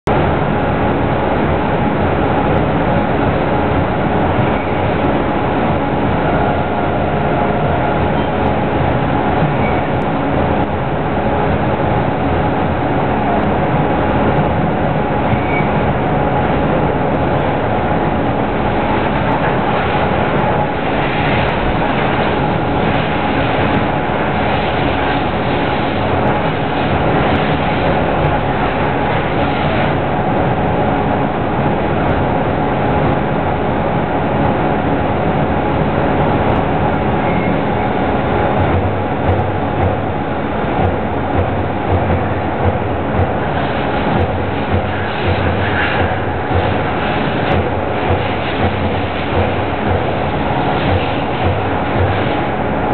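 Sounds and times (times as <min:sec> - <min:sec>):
constant machine tone: 0:00.0 - 0:52.9
machining center running: 0:00.0 - 0:52.9.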